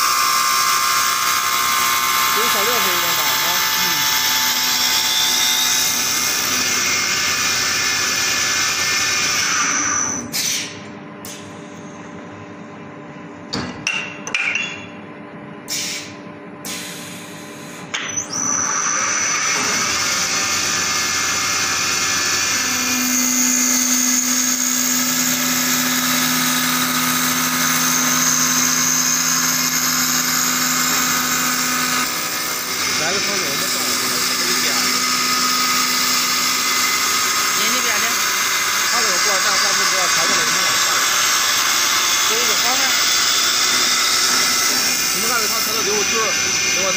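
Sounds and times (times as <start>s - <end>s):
wood lathe cutting whine: 0.0s - 10.2s, 18.2s - 46.9s.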